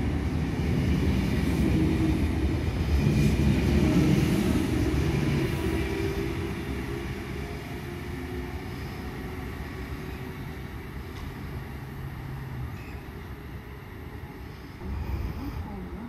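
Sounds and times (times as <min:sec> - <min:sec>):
electric train pulling away: 0:00.0 - 0:16.0.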